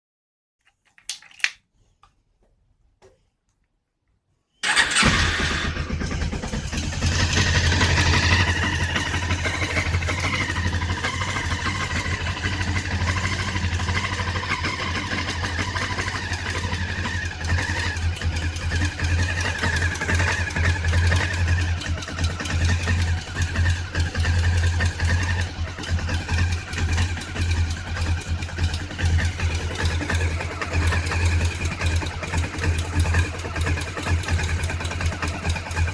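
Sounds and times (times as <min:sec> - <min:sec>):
motorcycle engine starting and idling: 0:04.6 - 0:35.9.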